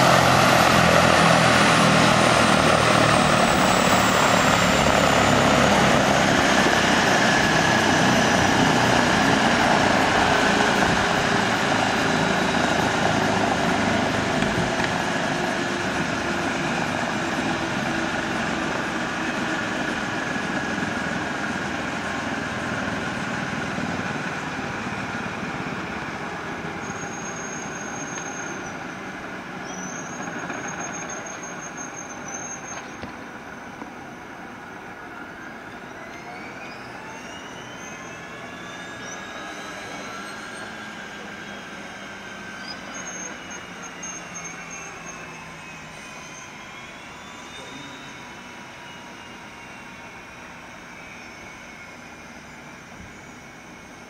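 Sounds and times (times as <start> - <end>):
gliding whining tones: 0.0 - 54.0
helicopter winding down: 0.0 - 54.0.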